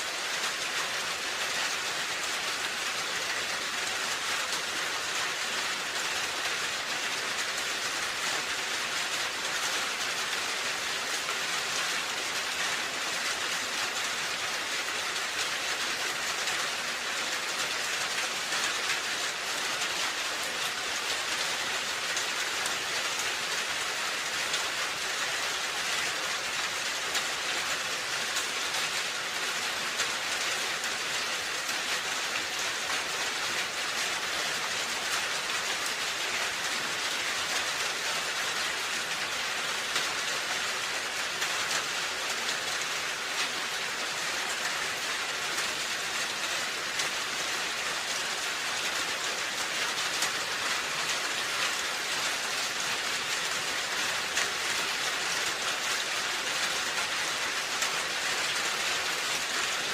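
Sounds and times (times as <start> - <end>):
rain falling on roof: 0.0 - 59.9.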